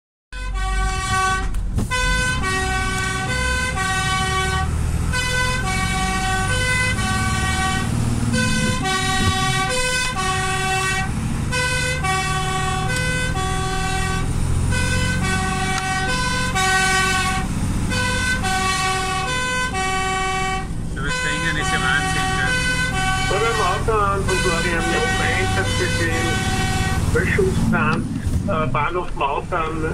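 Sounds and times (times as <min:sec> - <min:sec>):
truck engine running: 0:00.6 - 0:29.9
two-tone siren: 0:02.0 - 0:27.2.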